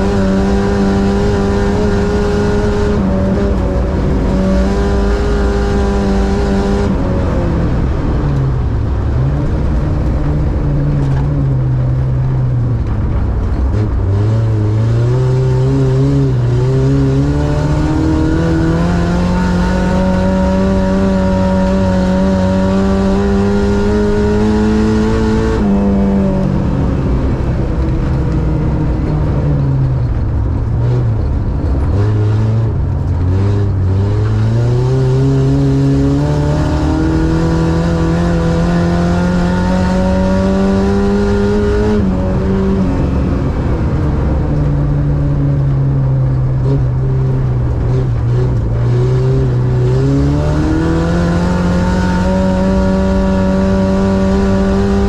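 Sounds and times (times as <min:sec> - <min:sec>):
car engine revving inside cabin: 0:00.0 - 0:55.0.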